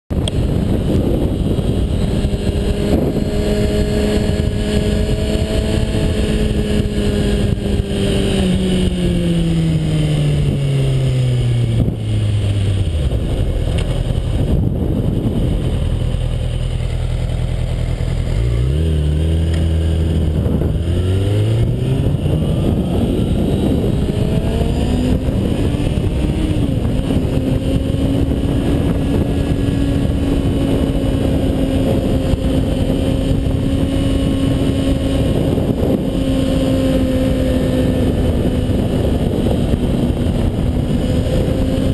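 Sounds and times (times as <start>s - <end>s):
motorcycle engine: 0.1s - 41.9s
wind rush: 0.1s - 41.9s.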